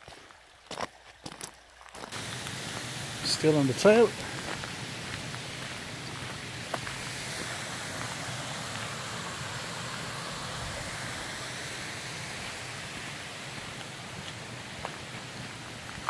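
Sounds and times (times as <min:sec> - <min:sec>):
rocky stream rushing: 0:00.0 - 0:16.0.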